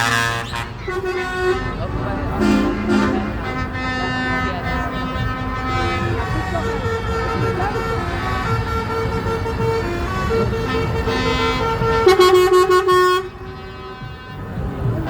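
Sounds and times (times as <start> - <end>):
air horn blast: 0.0 - 15.0
held truck horn tone: 0.0 - 15.0
truck engines rumbling: 0.0 - 15.0.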